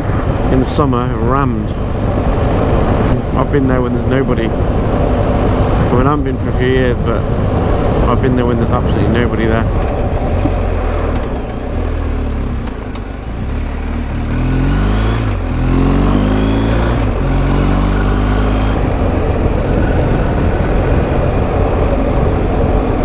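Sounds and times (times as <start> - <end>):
motorcycle engine revving: 0.0 - 23.0
wind noise: 0.0 - 23.0.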